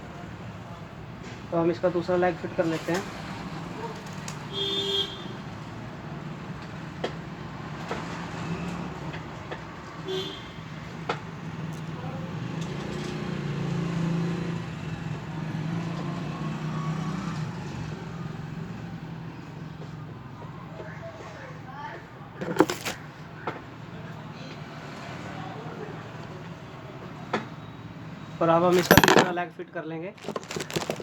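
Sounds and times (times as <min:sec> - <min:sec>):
road traffic rumble: 0:00.0 - 0:29.2.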